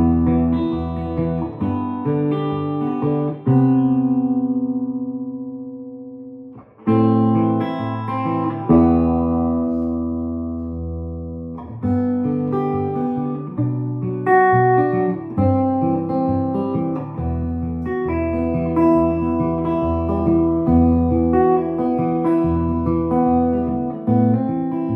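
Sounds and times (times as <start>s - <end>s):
electric guitar notes and chords: 0.0s - 24.9s.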